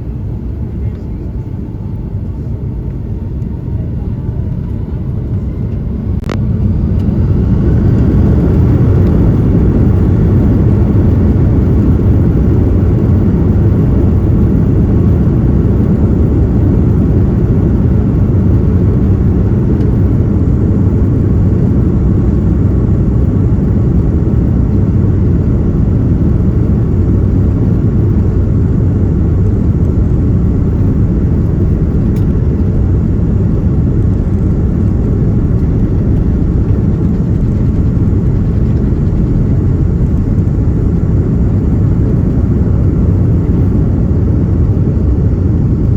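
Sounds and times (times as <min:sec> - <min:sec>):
jet engine cabin rumble: 0:00.0 - 0:45.9
rushing airflow: 0:05.9 - 0:45.9.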